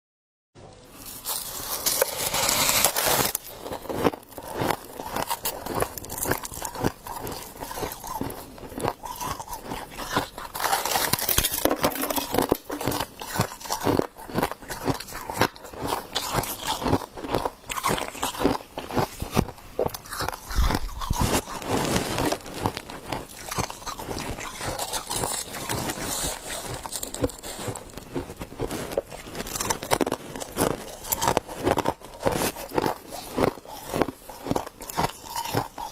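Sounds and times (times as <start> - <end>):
crunching and chewing of frost: 1.0 - 35.9.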